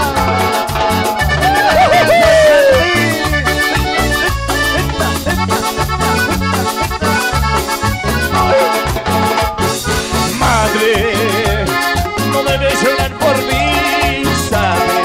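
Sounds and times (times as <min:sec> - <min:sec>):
accordion-led latin dance tune: 0:00.0 - 0:15.0
percussion beat: 0:00.0 - 0:15.0
steady bass: 0:00.0 - 0:15.0.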